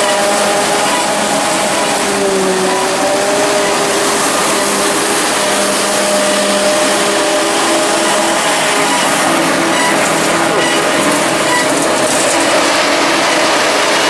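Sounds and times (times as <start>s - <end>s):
heavy harvesting machinery drone: 0.0s - 14.0s.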